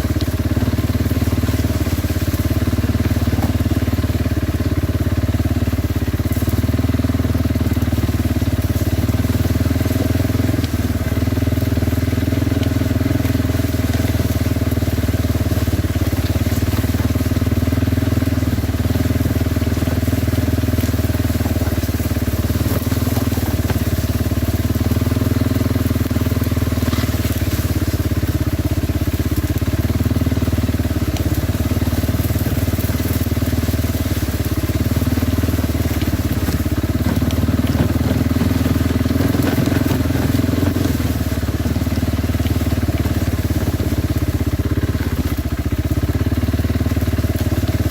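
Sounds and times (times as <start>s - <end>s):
quad engine running: 0.0s - 47.9s
rough tyre noise over ground: 0.0s - 47.9s.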